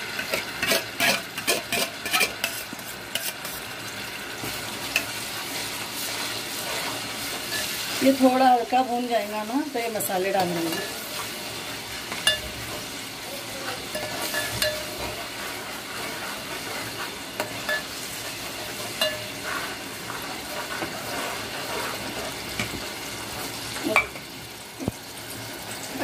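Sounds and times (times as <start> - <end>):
paste sizzling in hot oil: 0.0 - 26.0.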